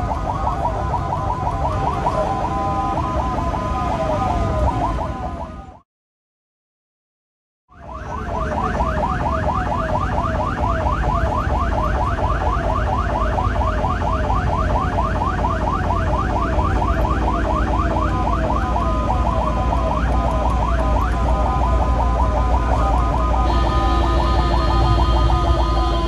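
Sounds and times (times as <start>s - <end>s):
ambulance siren yelping: 0.0s - 5.8s, 7.7s - 26.0s
engine and road rumble: 0.0s - 5.8s, 7.7s - 26.0s.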